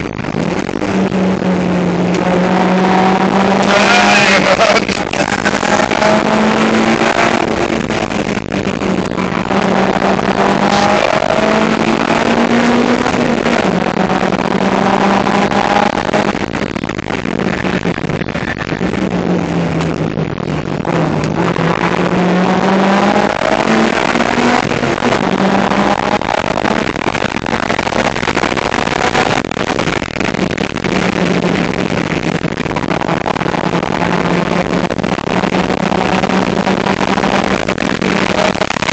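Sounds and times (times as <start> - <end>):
car engine revving: 0.0 - 38.9
wind and road noise: 0.0 - 38.9.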